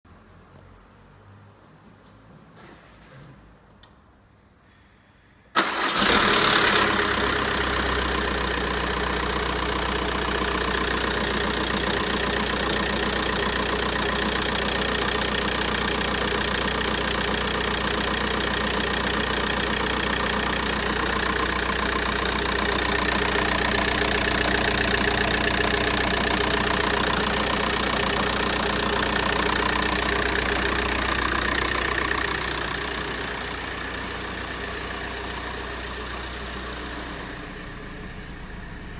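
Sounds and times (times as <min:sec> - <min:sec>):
diesel engine starting and idling: 0:05.6 - 0:38.9.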